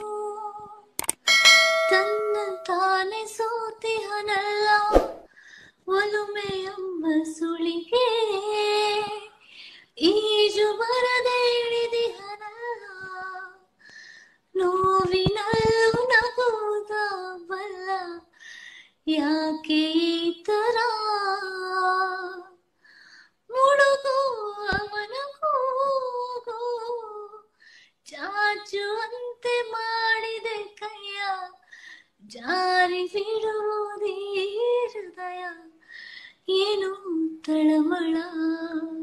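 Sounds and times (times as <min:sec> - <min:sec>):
woman singing unaccompanied: 0:00.0 - 0:00.9, 0:01.9 - 0:04.9, 0:05.9 - 0:09.4, 0:10.0 - 0:13.7, 0:14.6 - 0:18.3, 0:19.1 - 0:22.6, 0:23.5 - 0:27.5, 0:28.1 - 0:31.6, 0:32.2 - 0:35.8, 0:36.5 - 0:39.0.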